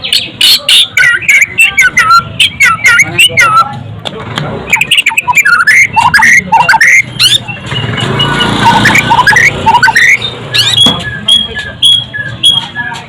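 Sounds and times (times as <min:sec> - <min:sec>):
bird singing whistled song: 0:00.0 - 0:03.7, 0:04.7 - 0:13.0.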